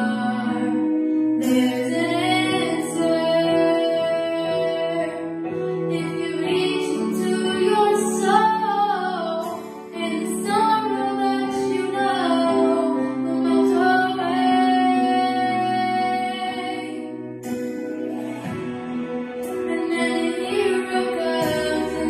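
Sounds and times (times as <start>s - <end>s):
girl singing: 0.0s - 5.2s, 5.9s - 17.1s, 19.6s - 22.0s
instrumental backing music: 0.0s - 22.0s.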